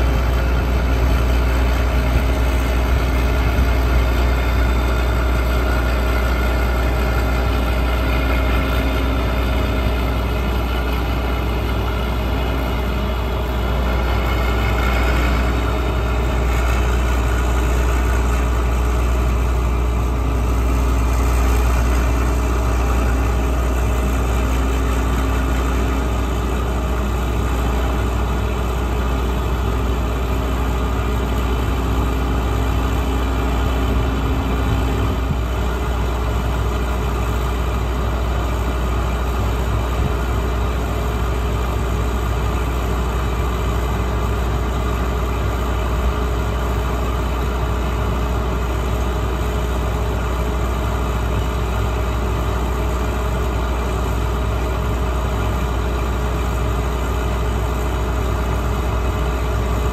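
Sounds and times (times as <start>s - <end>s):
diesel tractor idling: 0.0s - 59.9s.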